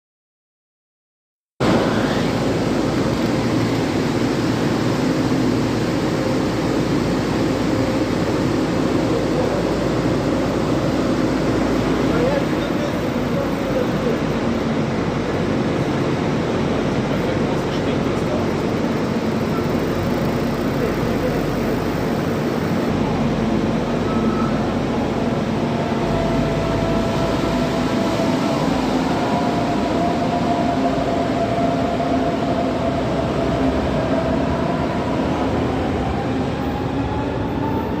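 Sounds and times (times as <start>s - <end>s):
passenger train rumbling: 1.6s - 38.0s.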